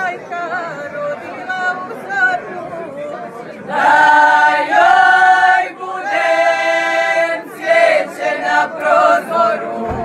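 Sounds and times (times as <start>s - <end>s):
women singing unaccompanied: 0.0s - 2.8s, 3.7s - 10.0s.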